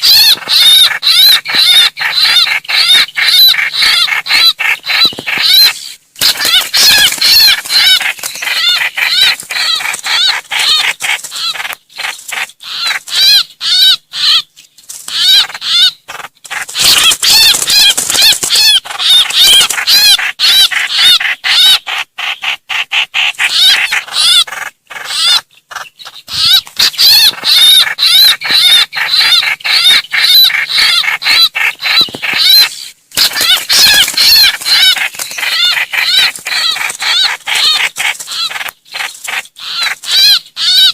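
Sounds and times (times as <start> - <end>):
bird harsh chattering calls: 0.0 - 40.9.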